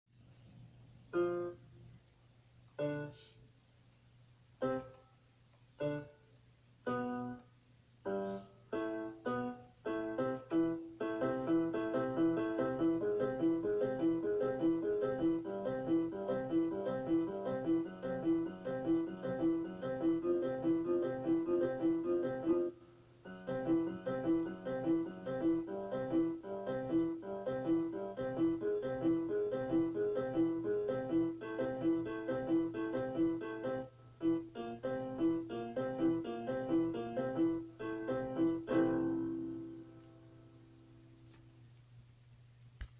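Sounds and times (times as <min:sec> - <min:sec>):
solo piano melody: 0:01.1 - 0:02.1, 0:02.7 - 0:03.3, 0:04.6 - 0:41.1.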